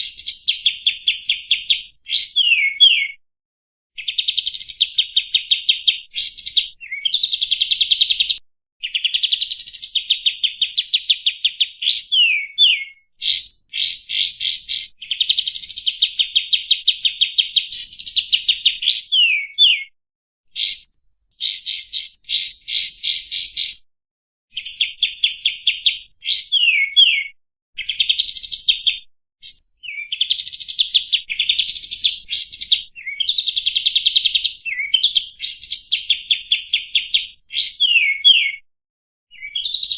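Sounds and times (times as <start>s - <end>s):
songbird singing: 0.0s - 3.2s, 4.0s - 19.9s, 20.5s - 23.8s, 24.5s - 38.6s, 39.3s - 39.9s.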